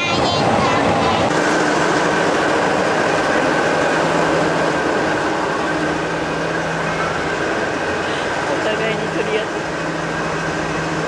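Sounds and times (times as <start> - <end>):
train running rumble inside carriage: 0.0 - 11.0.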